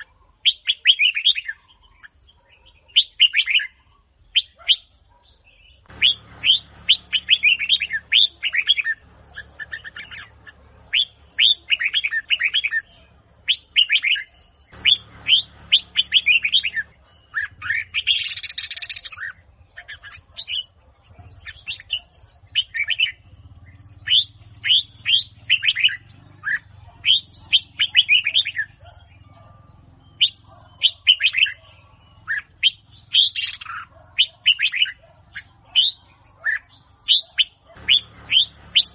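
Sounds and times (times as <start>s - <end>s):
bird chirping song: 0.0s - 38.9s.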